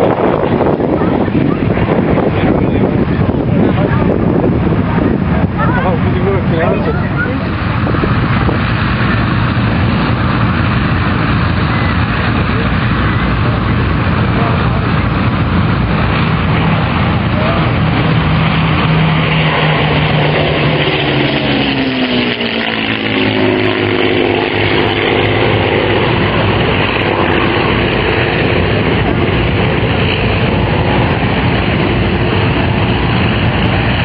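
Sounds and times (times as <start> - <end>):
propeller aircraft engines droning: 0.0 - 34.0
wind noise on microphone: 0.0 - 34.0.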